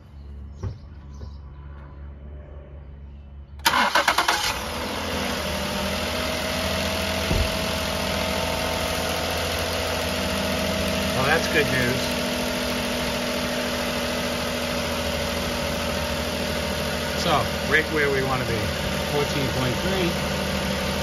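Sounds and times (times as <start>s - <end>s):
car engine idling: 3.6s - 21.0s.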